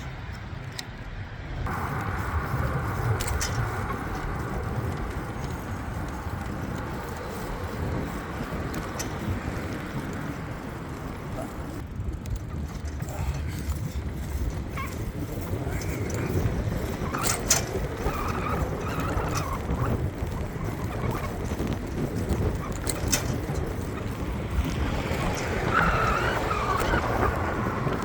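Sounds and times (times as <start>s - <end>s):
low road rumble: 0.0s - 28.0s.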